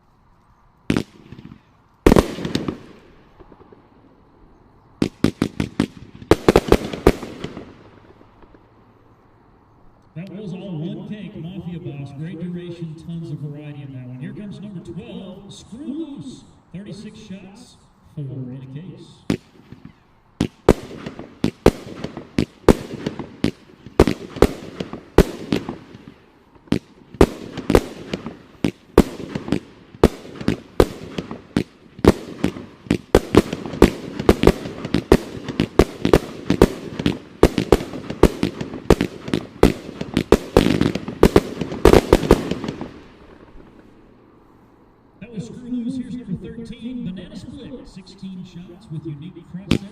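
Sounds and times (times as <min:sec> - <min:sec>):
fireworks firing sharp reports: 0:00.9 - 0:09.0, 0:10.2 - 0:44.3, 0:45.2 - 0:49.9.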